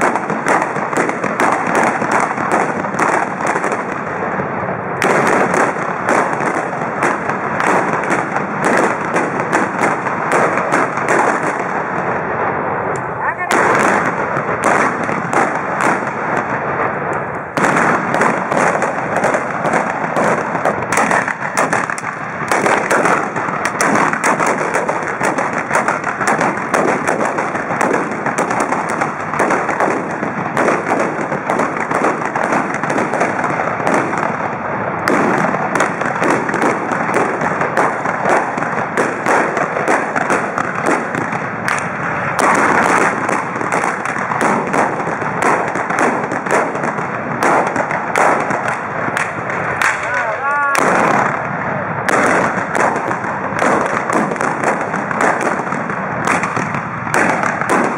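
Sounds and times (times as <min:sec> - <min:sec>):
blunderbusses firing rapidly: 0:00.0 - 0:57.9.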